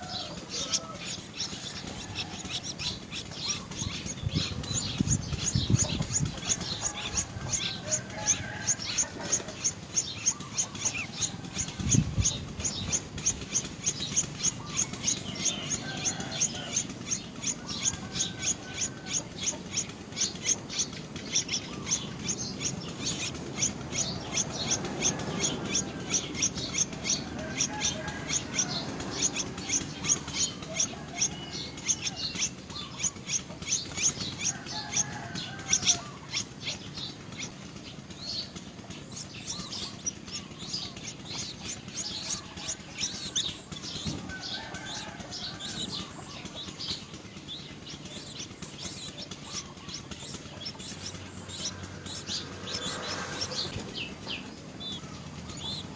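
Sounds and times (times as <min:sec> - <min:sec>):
low warbling bird calls: 0:00.0 - 0:55.9
small birds chirping: 0:00.0 - 0:55.9.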